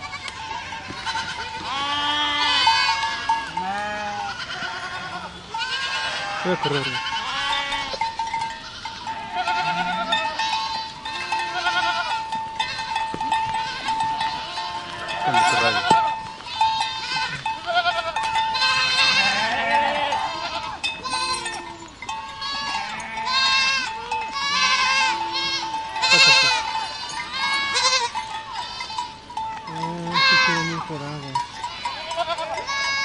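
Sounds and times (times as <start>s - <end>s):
goats bleating: 0.0s - 33.0s.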